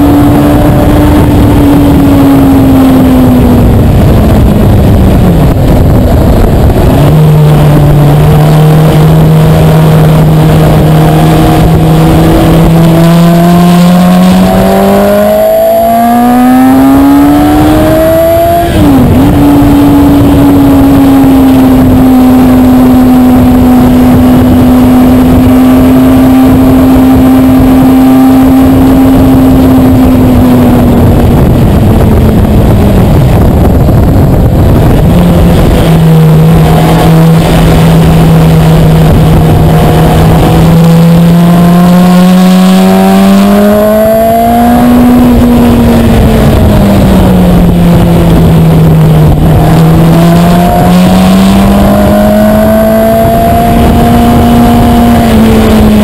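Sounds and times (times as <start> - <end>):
motorcycle engine revving: 0.0 - 56.0
wind noise on microphone: 0.0 - 56.0.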